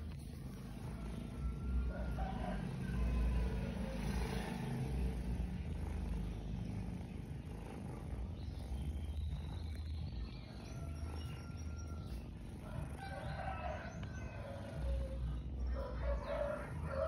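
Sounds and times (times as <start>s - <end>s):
cats purring: 0.0s - 17.0s.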